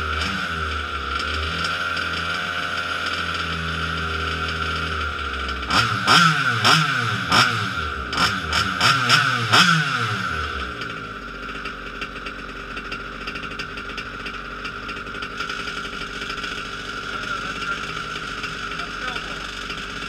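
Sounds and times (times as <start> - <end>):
two-stroke engine revving and idling: 0.0 - 20.0.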